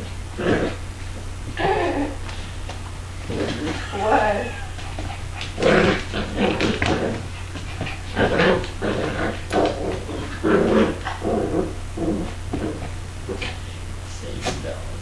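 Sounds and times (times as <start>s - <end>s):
dogs play growling: 0.0s - 14.9s
low hum: 0.0s - 15.0s.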